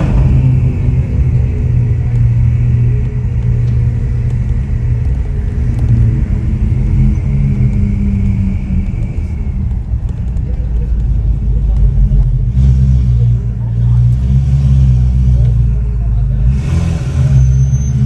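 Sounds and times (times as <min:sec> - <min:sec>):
car engine deep drone: 0:00.0 - 0:18.0.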